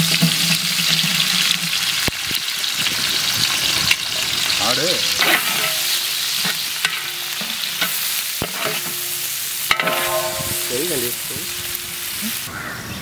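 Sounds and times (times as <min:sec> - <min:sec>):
onions sizzling in hot oil: 0:00.0 - 0:12.8.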